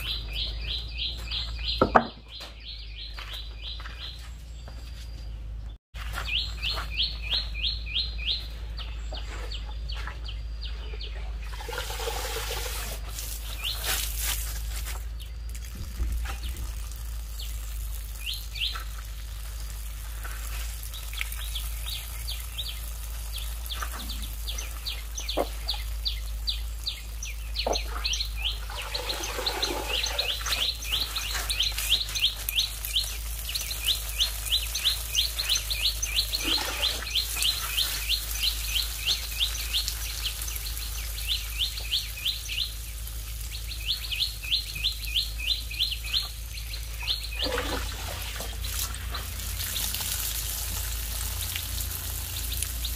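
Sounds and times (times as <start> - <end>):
bird chirping: 0.0 - 12.2, 13.4 - 14.3, 15.1 - 50.1.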